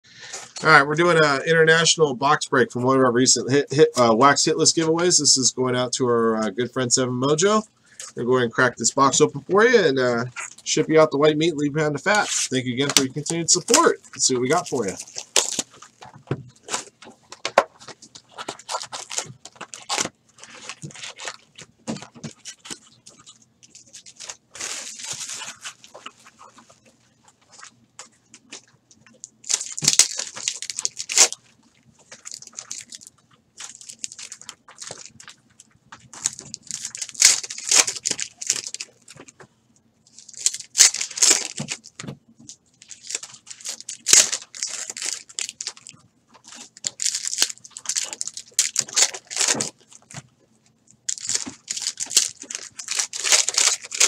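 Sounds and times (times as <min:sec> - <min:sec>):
foil packs crinkling: 0:07.4 - 0:39.4, 0:40.1 - 0:50.3, 0:51.0 - 0:54.0.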